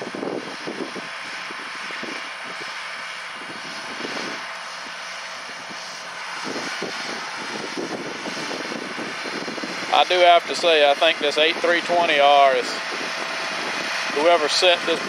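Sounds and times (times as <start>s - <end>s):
tractor diesel engines droning: 0.0s - 15.0s.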